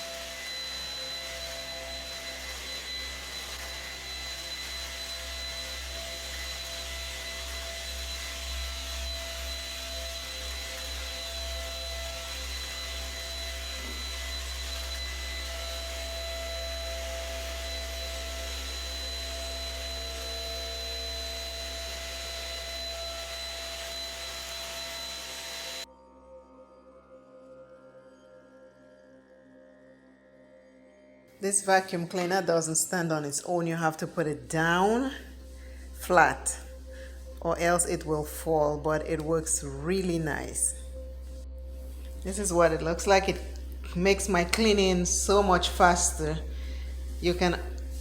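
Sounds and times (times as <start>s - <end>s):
vacuum cleaner whining: 0.0s - 25.9s, 33.8s - 48.0s.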